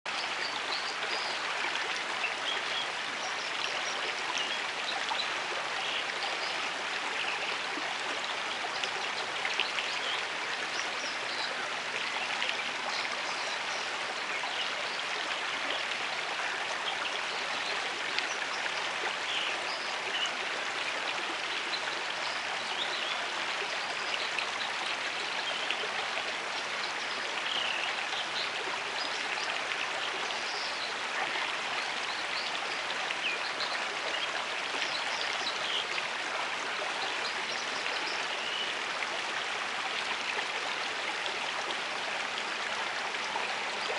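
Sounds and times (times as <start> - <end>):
creek babbling over rocks: 0.1 - 43.9.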